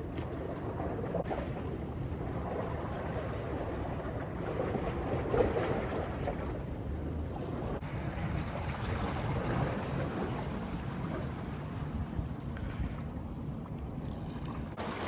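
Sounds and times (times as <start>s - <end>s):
rough sea water and surf: 0.0s - 15.0s
wind rumbling on microphone: 0.0s - 15.0s.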